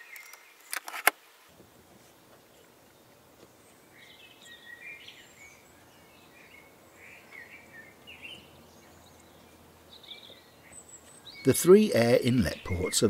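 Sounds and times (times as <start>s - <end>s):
faint birdsong: 0.0s - 1.0s, 1.6s - 13.0s.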